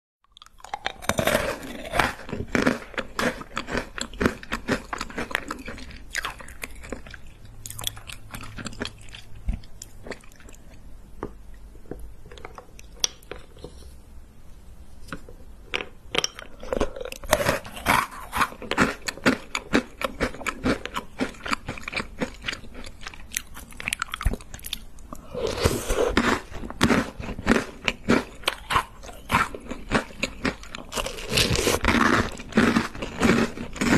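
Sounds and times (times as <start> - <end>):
crunching cereal: 0.3 - 10.7, 16.5 - 33.9.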